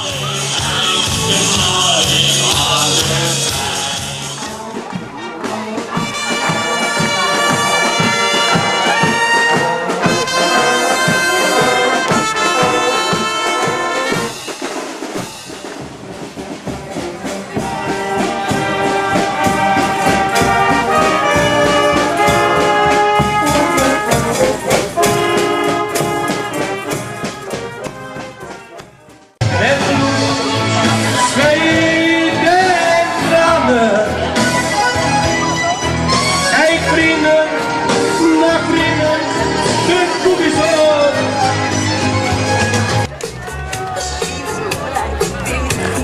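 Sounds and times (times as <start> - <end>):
steady drum beat: 0.0 - 40.8, 42.5 - 46.0
brass band playing: 0.0 - 46.0.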